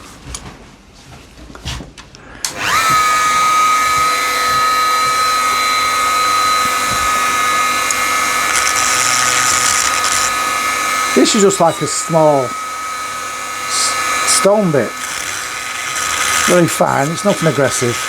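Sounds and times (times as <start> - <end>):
rotary tool whining: 2.5 - 18.0.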